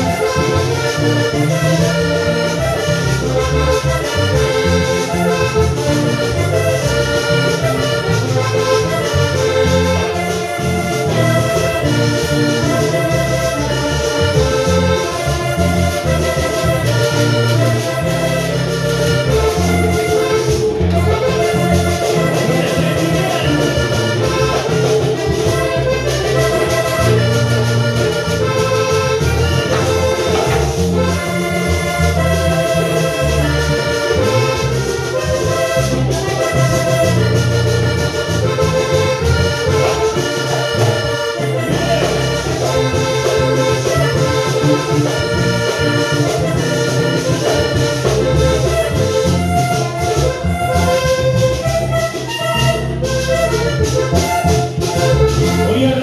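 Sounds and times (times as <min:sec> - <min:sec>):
loud instrumental music: 0:00.0 - 0:56.0.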